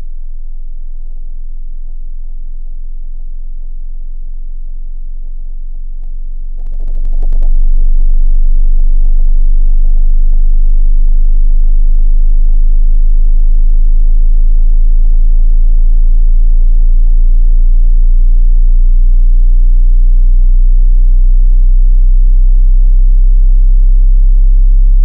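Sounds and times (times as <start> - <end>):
very deep steady test tone: 0.0 - 25.0.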